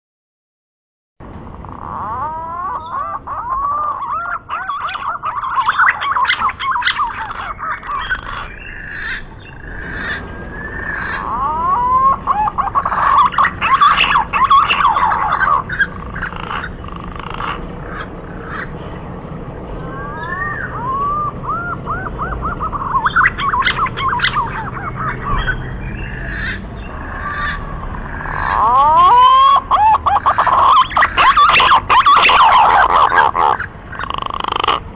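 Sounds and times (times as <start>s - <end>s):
green pigeons whistling calls: 2.0s - 9.2s, 10.2s - 16.7s, 19.9s - 34.8s.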